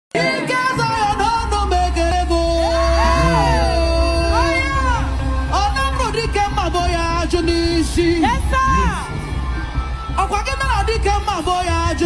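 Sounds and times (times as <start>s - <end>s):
music with singing: 0.1s - 12.0s
deep bass note: 1.1s - 12.0s.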